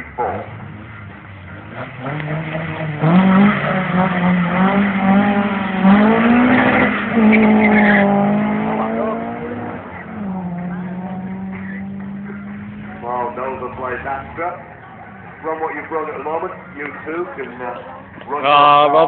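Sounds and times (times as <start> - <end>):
race car engines at full throttle: 0.0 - 19.0.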